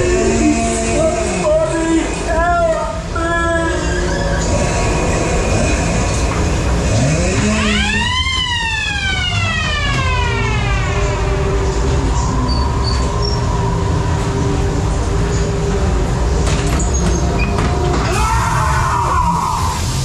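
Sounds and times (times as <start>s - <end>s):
ride car rumbling on track: 0.0s - 20.0s.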